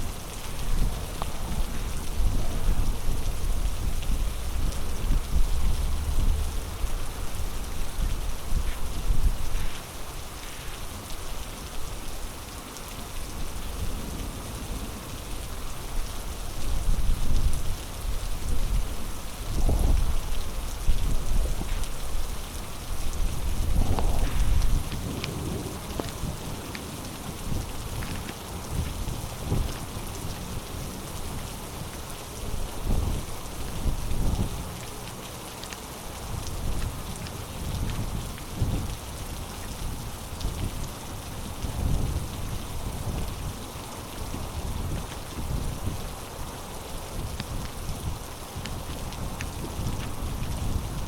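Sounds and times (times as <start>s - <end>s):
heavy rain hiss: 0.0s - 51.0s.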